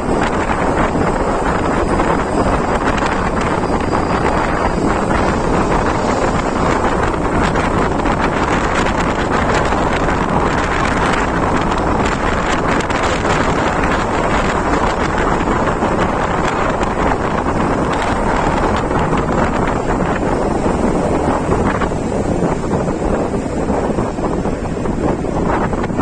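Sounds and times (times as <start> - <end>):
road and engine rumble: 0.0 - 26.0
wind buffeting microphone: 0.0 - 26.0.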